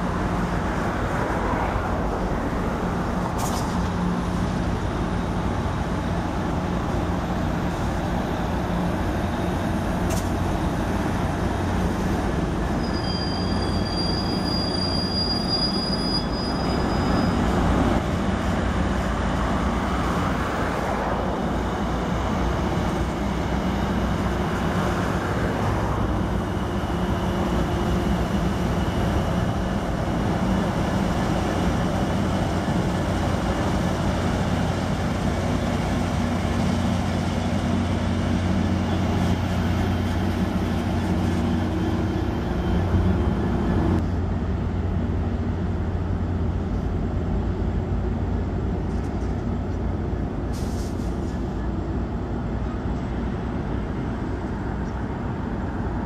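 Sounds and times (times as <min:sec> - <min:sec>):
diesel locomotive engine drone: 0:00.0 - 0:56.0
train cars rumbling: 0:00.0 - 0:56.0.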